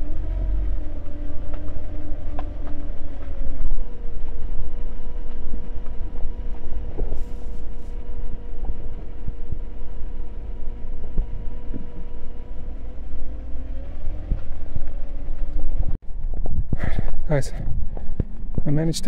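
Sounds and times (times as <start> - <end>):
constant hum: 0.0 - 19.0
vehicle engine rumble: 0.0 - 19.0.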